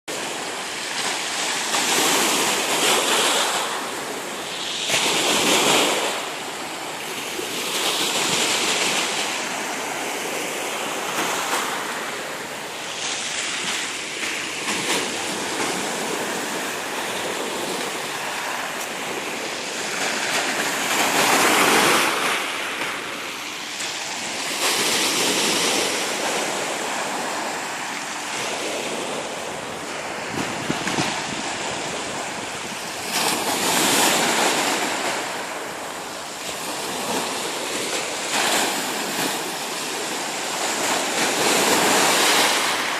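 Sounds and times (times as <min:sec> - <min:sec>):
waves breaking: 0:00.1 - 0:42.9.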